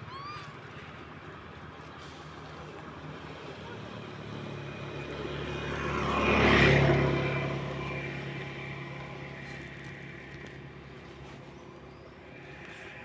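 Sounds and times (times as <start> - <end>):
vehicle passing by: 0.6 - 13.0.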